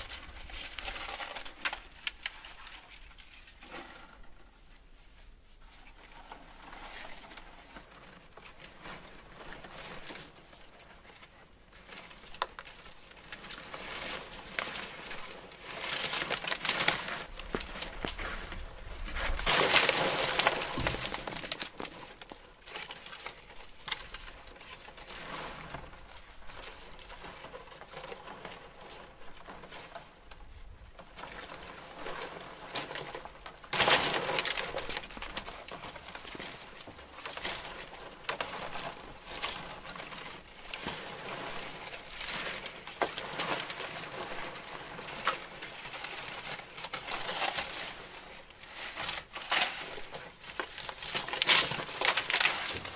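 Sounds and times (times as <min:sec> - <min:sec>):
rustling noise: 0:00.0 - 0:52.9.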